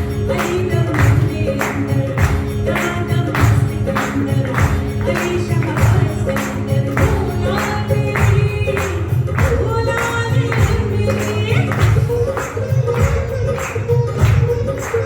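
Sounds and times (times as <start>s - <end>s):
music with steady beat: 0.0s - 15.0s.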